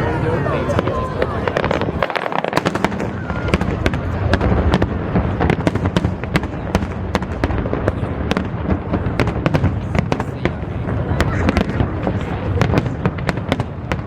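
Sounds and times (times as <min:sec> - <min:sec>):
fireworks crackling and popping: 0:00.6 - 0:14.0.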